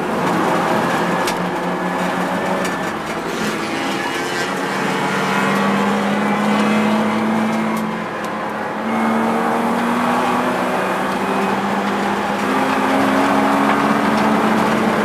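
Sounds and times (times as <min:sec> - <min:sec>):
race car engine under throttle: 0:00.0 - 0:15.0.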